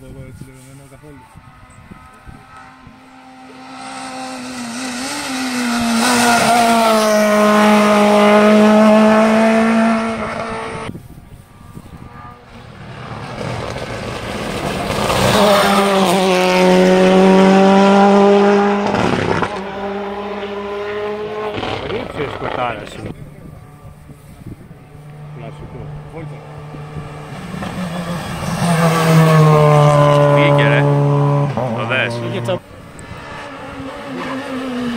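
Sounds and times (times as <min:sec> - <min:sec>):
race cars passing at high revs: 0:00.0 - 0:34.9.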